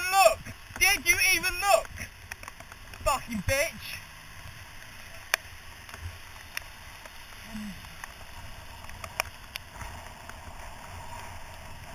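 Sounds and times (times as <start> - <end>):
wind and wet road hiss: 0.0 - 11.9.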